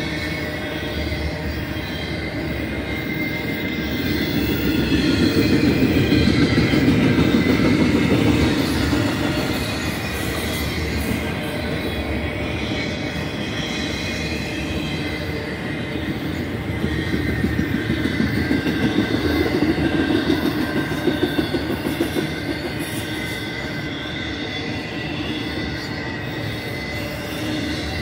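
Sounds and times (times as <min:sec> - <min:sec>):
freight train wheels on rail: 0:00.0 - 0:28.0.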